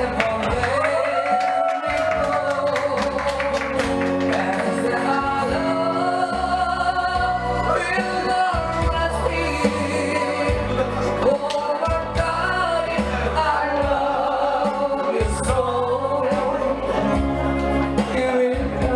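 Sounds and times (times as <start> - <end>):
man singing into microphone: 0.0 - 18.9.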